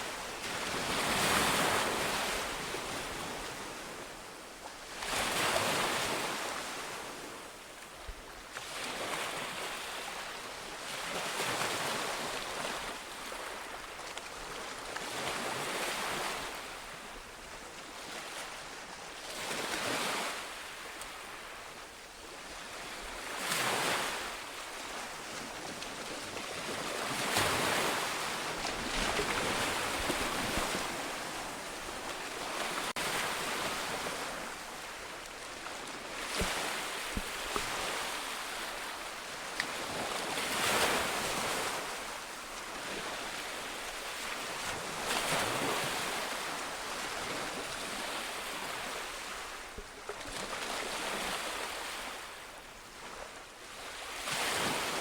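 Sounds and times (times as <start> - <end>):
ocean waves breaking on beach: 8.6 - 55.0.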